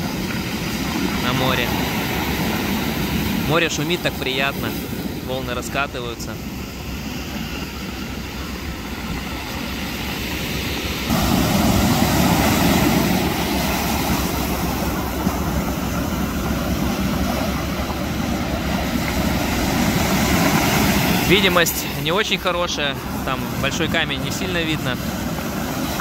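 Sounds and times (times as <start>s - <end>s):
waves breaking on shore: 0.0s - 26.0s.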